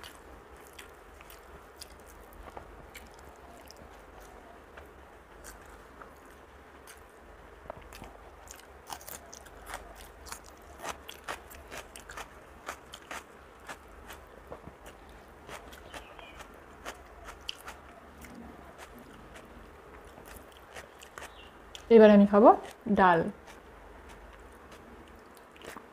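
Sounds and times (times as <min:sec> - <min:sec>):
wet chewing clicks and smacks: 0:00.0 - 0:04.4, 0:07.7 - 0:21.9, 0:23.4 - 0:25.9.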